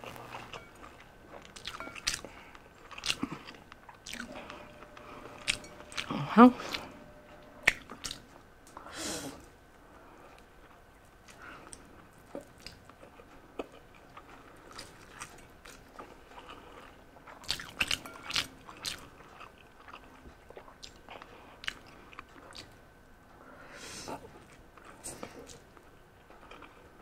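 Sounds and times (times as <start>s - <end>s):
chewing with wet smacks: 0.0s - 6.9s, 7.6s - 8.3s, 10.2s - 22.8s, 24.2s - 27.0s.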